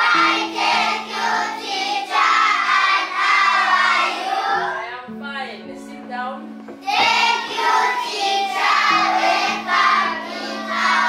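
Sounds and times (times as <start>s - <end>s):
children singing in unison: 0.0s - 4.8s, 6.8s - 11.0s.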